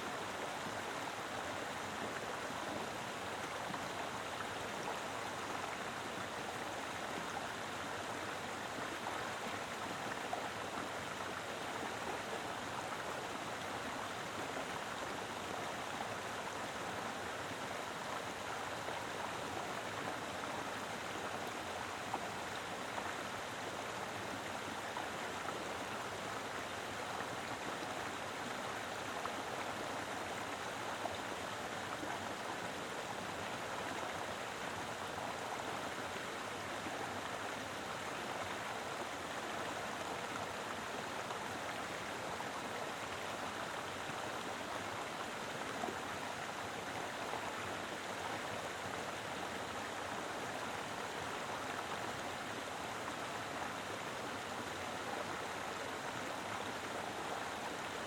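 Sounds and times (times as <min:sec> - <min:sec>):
river flowing over rocks: 0:00.0 - 0:58.0.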